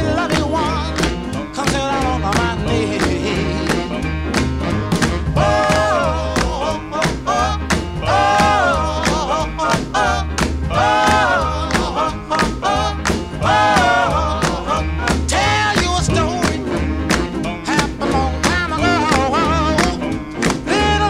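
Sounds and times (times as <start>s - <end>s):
background music with drum beat: 0.0s - 21.0s.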